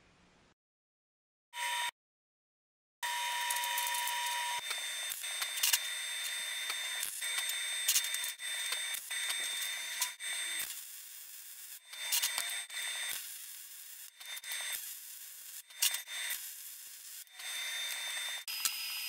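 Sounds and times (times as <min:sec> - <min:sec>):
welding arc crackling and hissing: 0:03.3 - 0:19.0.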